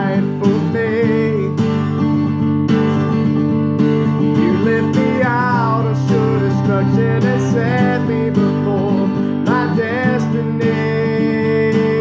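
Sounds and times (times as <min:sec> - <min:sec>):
man singing: 0:00.0 - 0:02.0, 0:04.2 - 0:12.0
acoustic guitar strumming: 0:00.0 - 0:12.0.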